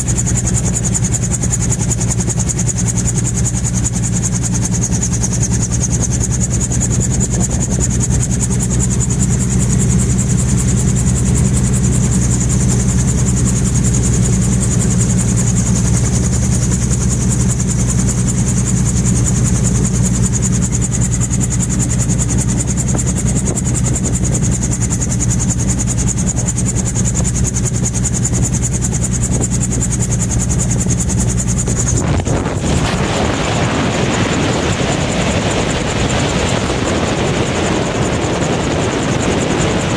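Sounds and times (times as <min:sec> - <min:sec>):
aircraft engine idling: 0:00.0 - 0:39.9
wind noise: 0:00.0 - 0:39.9.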